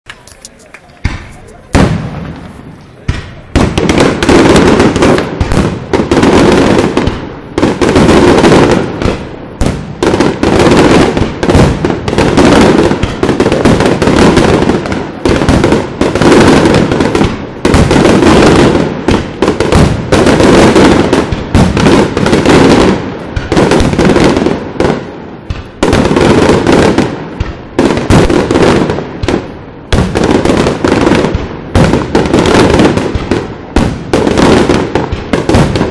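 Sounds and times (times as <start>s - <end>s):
fireworks bursting: 0.1s - 35.9s.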